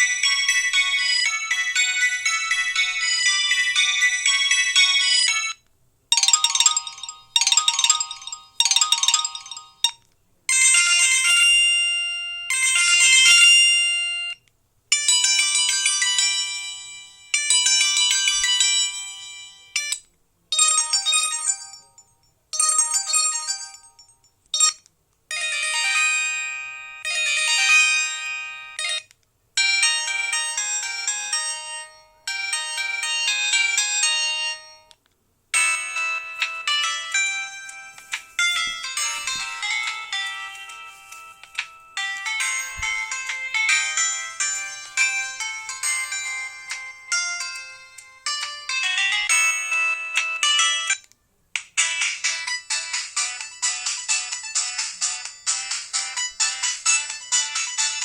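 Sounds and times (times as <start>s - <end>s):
mobile phone ringtones: 0.0s - 20.0s, 20.6s - 34.9s, 35.6s - 51.0s.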